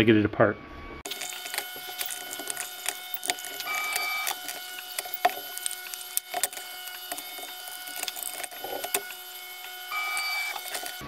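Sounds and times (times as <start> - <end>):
plastic parts clicking and snapping: 1.0 - 11.0.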